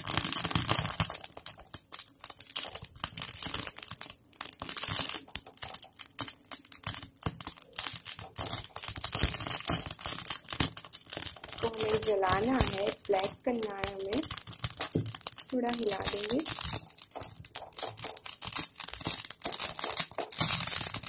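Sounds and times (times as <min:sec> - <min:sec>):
seeds sizzling in hot oil: 0:00.0 - 0:21.0.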